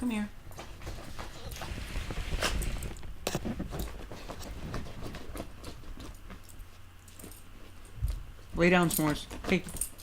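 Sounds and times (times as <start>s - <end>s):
puppy tapping and rustling: 0.4s - 10.0s.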